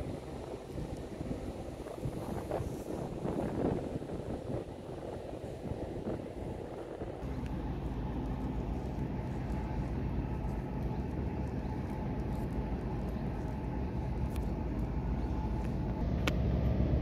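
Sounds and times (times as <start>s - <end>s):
ship engine droning: 0.0s - 17.0s.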